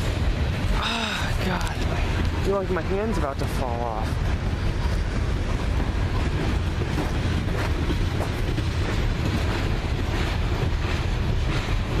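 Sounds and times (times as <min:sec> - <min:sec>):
rail cars rumbling on track: 0:00.0 - 0:12.0.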